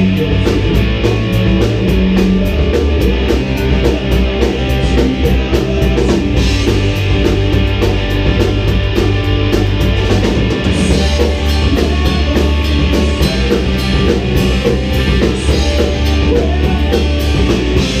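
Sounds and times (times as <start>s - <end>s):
rock band playing live: 0.0s - 18.0s.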